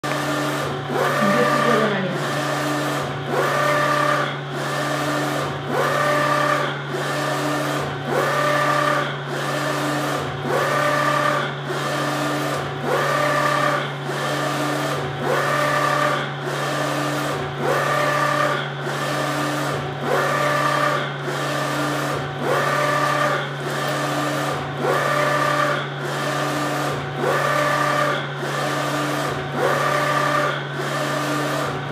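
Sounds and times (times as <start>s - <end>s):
printer carriage whirring: 0.0s - 31.9s.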